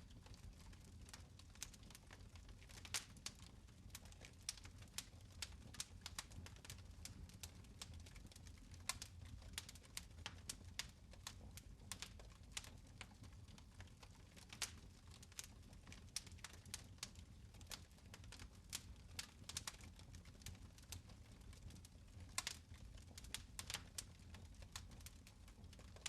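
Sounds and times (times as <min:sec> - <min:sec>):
fire crackling in fireplace: 0:00.0 - 0:26.0.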